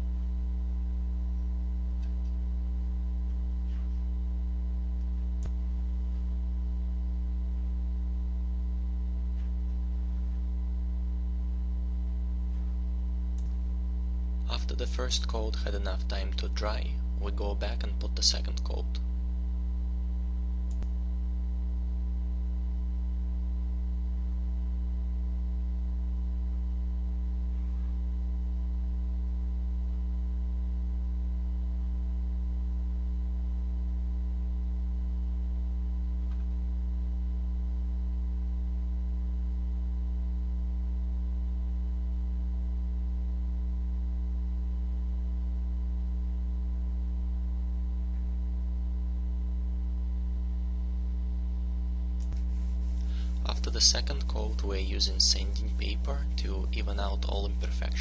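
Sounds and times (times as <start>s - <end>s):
faint high-pitched buzz: 0.0s - 58.0s
low electrical hum: 0.0s - 58.0s.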